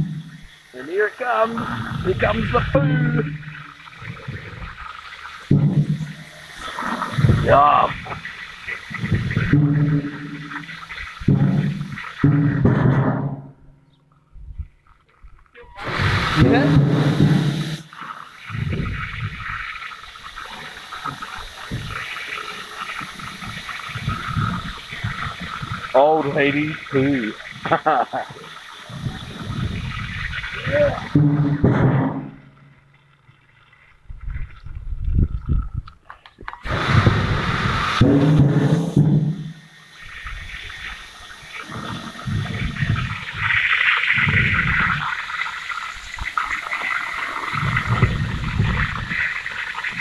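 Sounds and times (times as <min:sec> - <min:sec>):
sewage gurgling through a hose: 0:00.0 - 0:13.5, 0:14.6 - 0:50.0.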